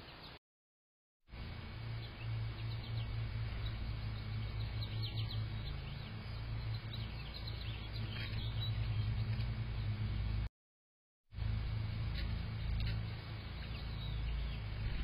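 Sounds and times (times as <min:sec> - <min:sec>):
small birds chirping: 0:00.0 - 0:00.4, 0:01.4 - 0:10.5, 0:12.1 - 0:15.0
steady low hum: 0:01.3 - 0:10.5, 0:11.4 - 0:15.0.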